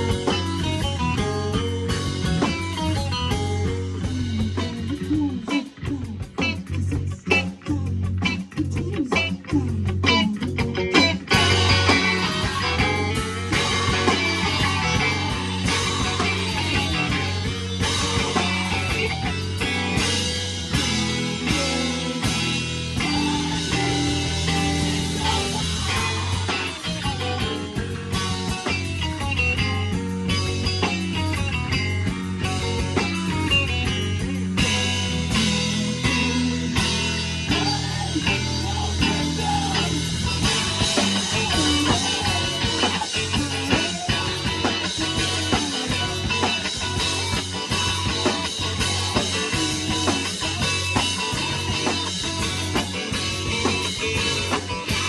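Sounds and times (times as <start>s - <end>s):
drum kit: 0.0s - 55.0s
guitars: 0.0s - 55.0s
rock band playing live: 0.0s - 55.0s.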